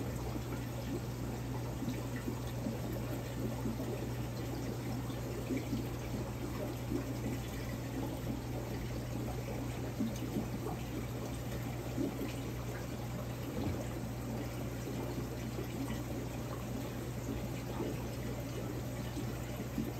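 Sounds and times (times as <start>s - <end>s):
aquarium water running and splashing: 0.0s - 19.9s.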